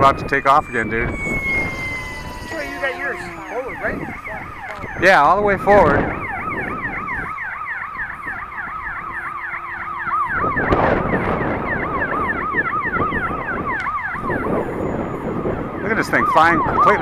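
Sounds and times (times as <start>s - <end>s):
electronic siren yelping: 0.0s - 17.0s
low wind rumble: 0.0s - 17.0s.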